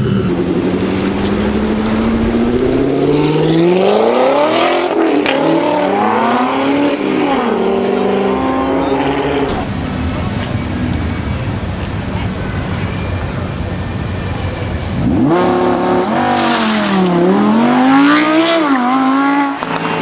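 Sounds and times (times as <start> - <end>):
car accelerating hard: 0.0 - 20.0.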